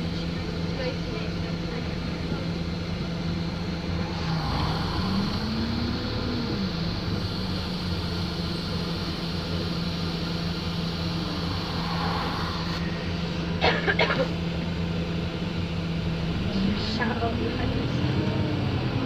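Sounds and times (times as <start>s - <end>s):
bus engine drone: 0.0s - 19.0s.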